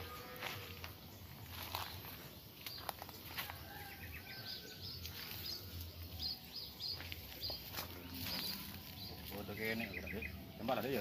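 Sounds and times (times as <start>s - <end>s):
footsteps on dry leaves: 0.0s - 10.2s
small bird chirping: 1.0s - 11.0s.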